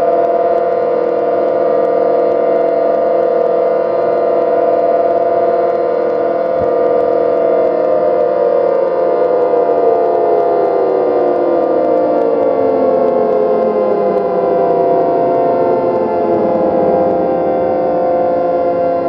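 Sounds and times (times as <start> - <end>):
siren winding down: 0.0 - 19.0.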